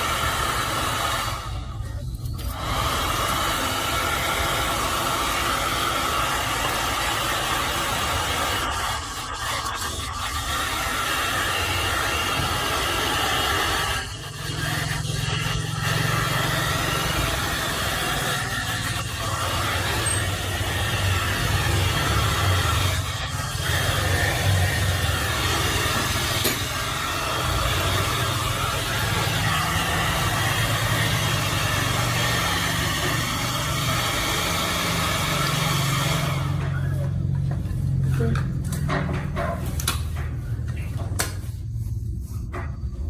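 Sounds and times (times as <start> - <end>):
hair dryer running: 0.0 - 1.8, 2.4 - 38.8.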